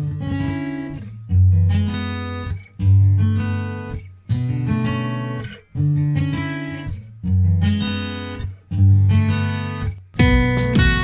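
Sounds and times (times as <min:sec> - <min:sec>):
guitar chords strummed: 0:00.0 - 0:11.0.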